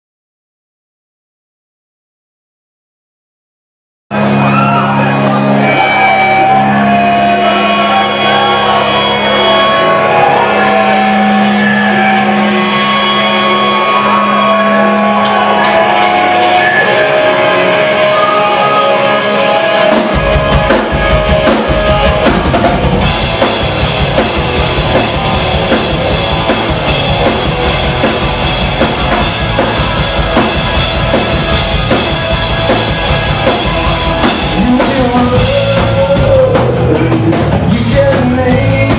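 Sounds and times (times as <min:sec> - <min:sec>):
guitar chords: 0:04.1 - 0:38.9
rock band playing: 0:04.1 - 0:38.9.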